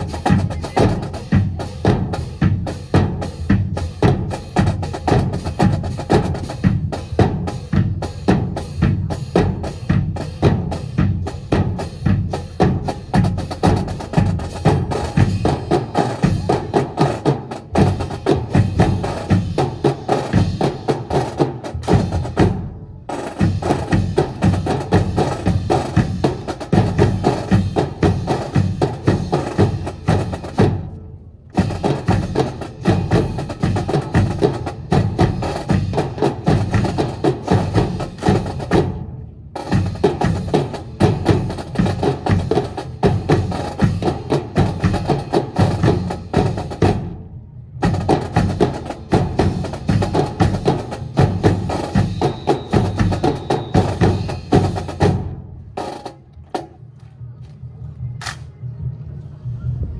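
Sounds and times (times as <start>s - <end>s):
marching drums cadence: 0.0s - 59.8s.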